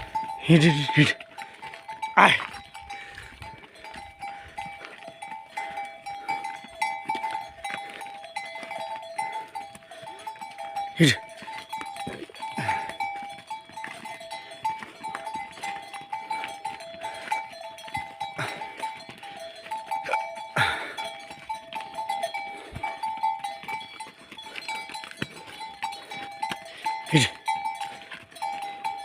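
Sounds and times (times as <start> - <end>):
livestock bells clinking: 0.0 - 29.0.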